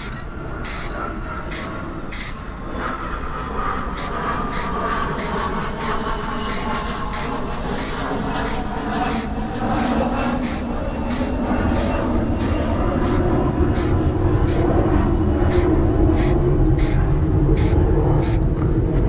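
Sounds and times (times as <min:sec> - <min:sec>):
paint sprayer hiss pulses: 0:00.0 - 0:02.4, 0:03.9 - 0:14.8, 0:15.4 - 0:18.4
paint sprayer motor rumble: 0:00.0 - 0:02.5, 0:03.9 - 0:18.6.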